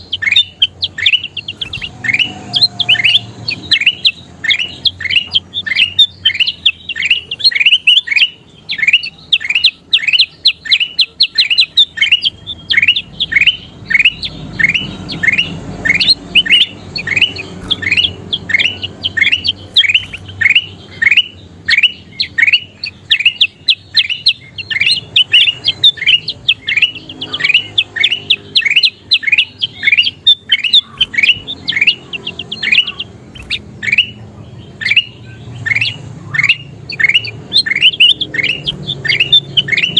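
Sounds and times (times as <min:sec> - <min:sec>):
bulbul calling: 0:00.0 - 0:39.9.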